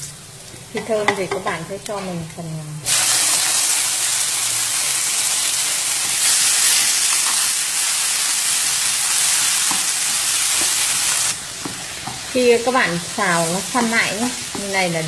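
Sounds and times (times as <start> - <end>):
meat sizzling in hot oil: 2.9 - 15.0.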